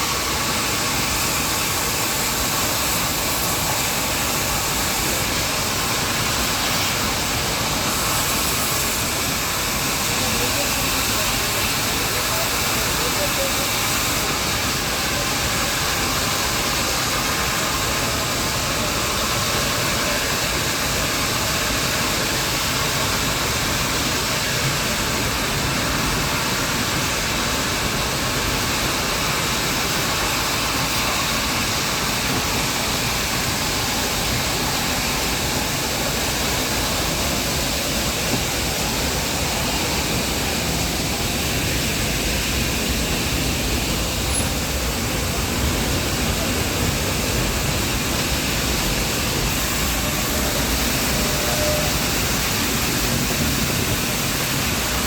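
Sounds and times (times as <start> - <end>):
train ride rushing noise: 0.0 - 55.0.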